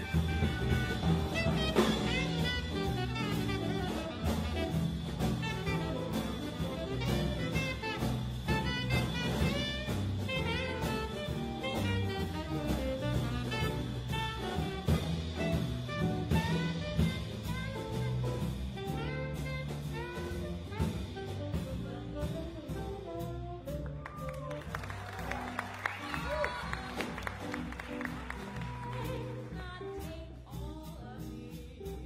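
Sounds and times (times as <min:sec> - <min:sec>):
tenor saxophone: 0:00.0 - 0:29.5
jazz combo playing swing: 0:00.0 - 0:32.0.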